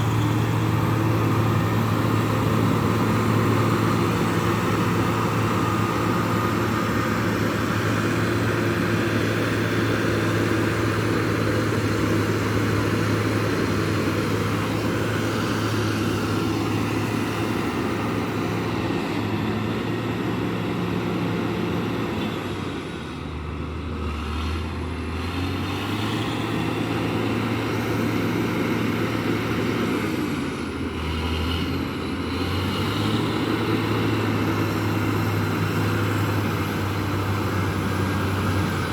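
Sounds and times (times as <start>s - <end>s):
large vehicle engine running: 0.0s - 38.9s.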